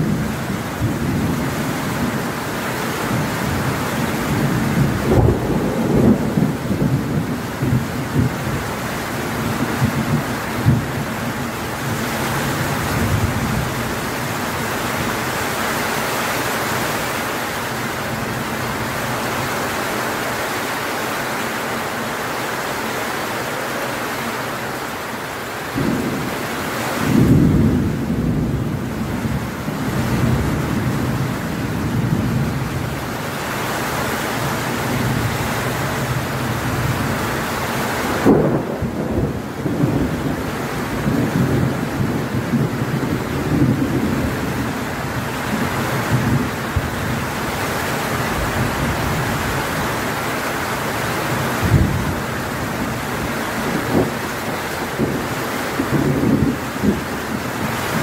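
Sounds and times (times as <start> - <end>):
thunder rumbling: 0.0 - 15.8, 25.6 - 58.0
heavy rain on leaves and metal roofs: 0.0 - 58.0.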